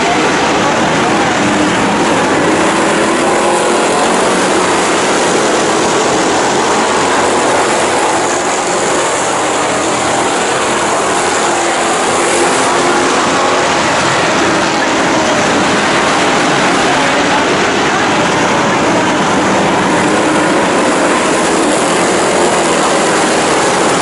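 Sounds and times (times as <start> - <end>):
race car engines roaring: 0.0 - 24.0.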